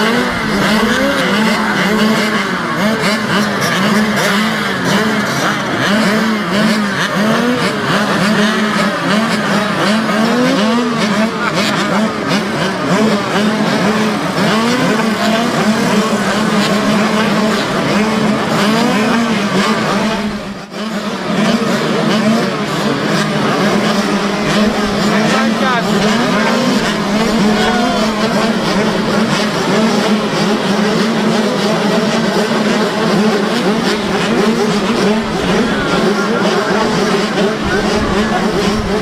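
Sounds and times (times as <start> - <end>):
mini bike engines revving: 0.0 - 39.0.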